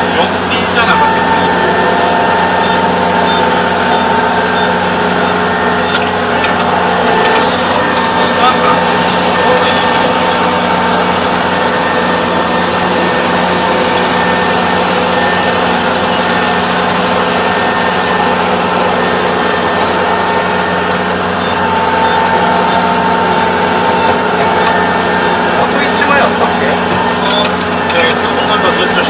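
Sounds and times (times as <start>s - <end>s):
engine droning with whine: 0.0s - 29.0s.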